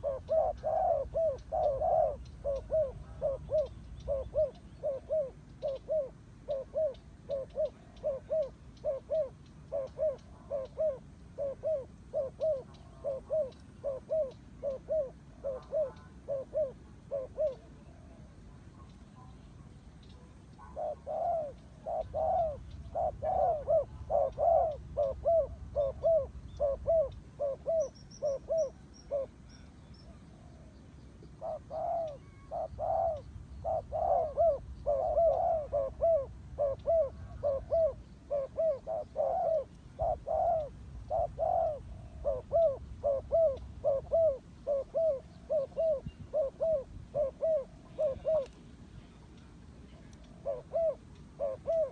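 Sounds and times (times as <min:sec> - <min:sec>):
doves cooing: 0:00.0 - 0:48.7, 0:50.0 - 0:51.9.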